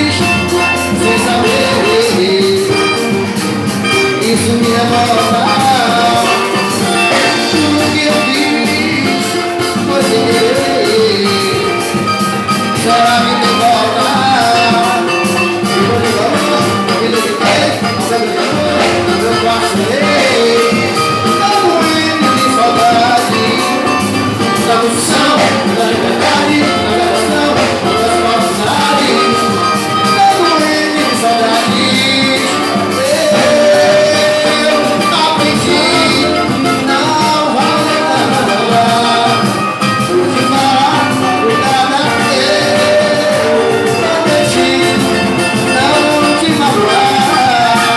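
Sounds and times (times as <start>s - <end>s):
live band playing latin music: 0.0s - 47.9s.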